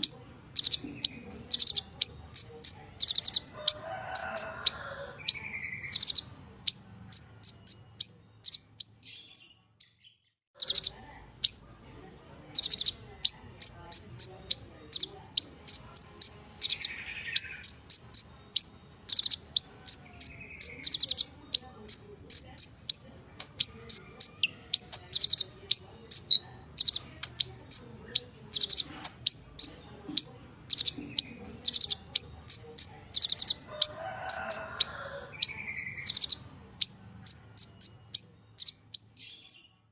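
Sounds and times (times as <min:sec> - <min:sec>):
sunbird chirping: 0:00.0 - 0:11.7, 0:12.5 - 0:39.8.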